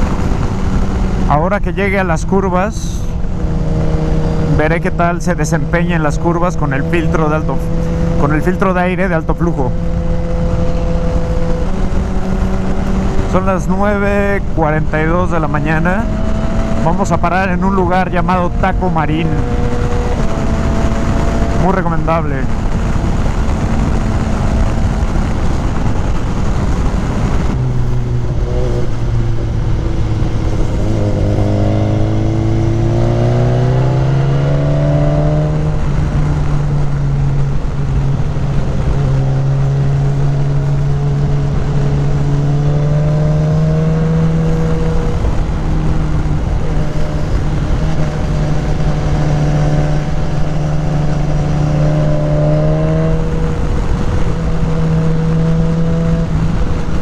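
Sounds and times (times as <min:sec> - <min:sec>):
motorcycle engine accelerating: 0:00.0 - 0:57.0
wind rush: 0:00.0 - 0:57.0.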